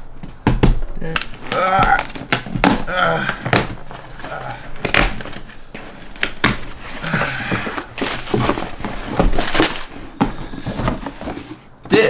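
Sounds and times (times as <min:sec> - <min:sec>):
knocks and taps on cardboard box: 0:00.2 - 0:11.5
packaging rustling: 0:00.9 - 0:11.8.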